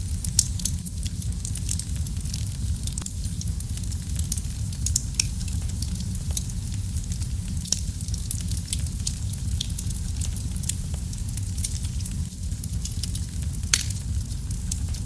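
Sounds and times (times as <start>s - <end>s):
fire crackles and pops: 0.0s - 15.0s
fire rumbling in fireplace: 0.0s - 15.0s.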